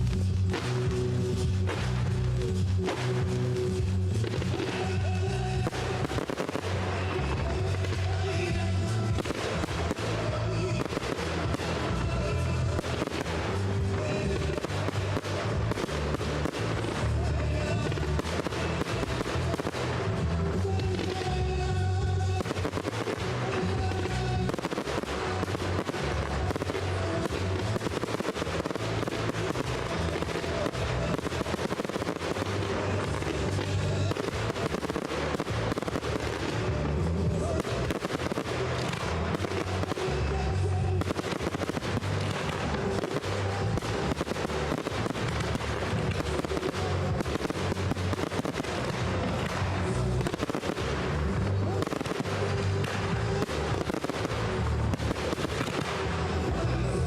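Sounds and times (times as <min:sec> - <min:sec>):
fireworks bangs and crackling: 0:00.0 - 0:57.0
music playing: 0:00.0 - 0:57.0.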